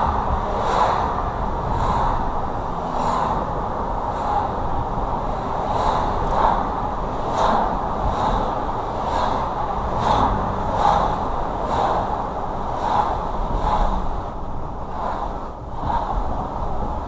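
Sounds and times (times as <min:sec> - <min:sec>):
car road noise inside cabin: 0:00.0 - 0:17.0
soft repeating swish: 0:00.0 - 0:17.0.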